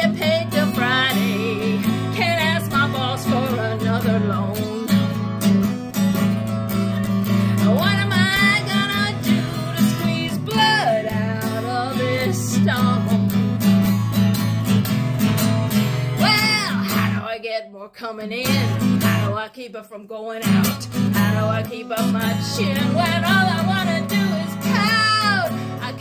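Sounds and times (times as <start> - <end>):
woman singing: 0.0 - 13.7, 16.1 - 26.0
acoustic guitar strumming: 0.0 - 17.3, 18.4 - 19.4, 20.4 - 26.0.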